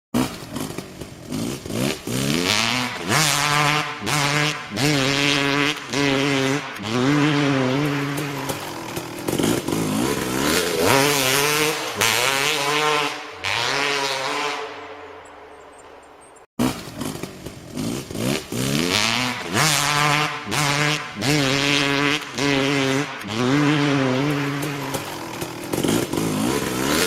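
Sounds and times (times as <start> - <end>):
motocross bike engine revving: 0.2 - 15.7, 16.6 - 27.0.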